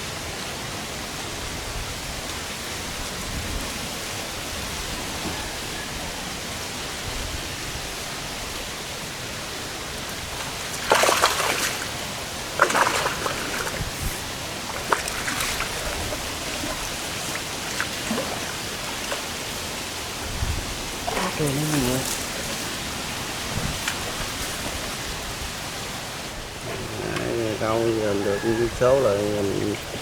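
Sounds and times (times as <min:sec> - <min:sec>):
water splashes: 0:00.2 - 0:30.0
hiss of water: 0:02.6 - 0:30.0.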